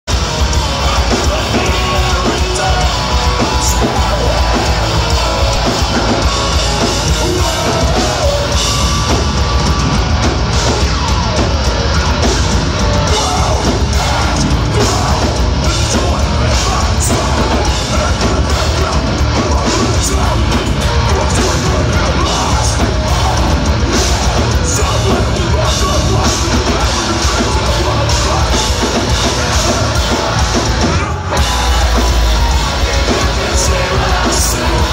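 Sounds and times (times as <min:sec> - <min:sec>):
live hardcore band playing: 0:00.0 - 0:34.9
shouted vocals: 0:00.1 - 0:34.9.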